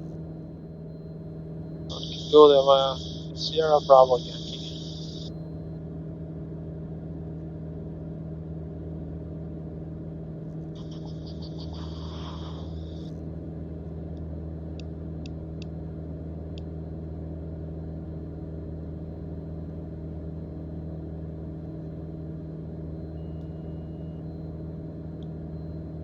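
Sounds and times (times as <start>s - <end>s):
airplane engine and propeller drone: 0.0s - 26.0s.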